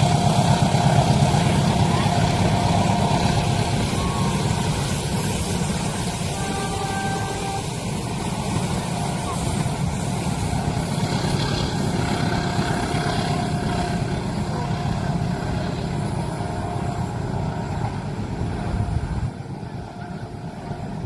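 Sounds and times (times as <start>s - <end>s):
train passing rumble: 0.0s - 21.0s.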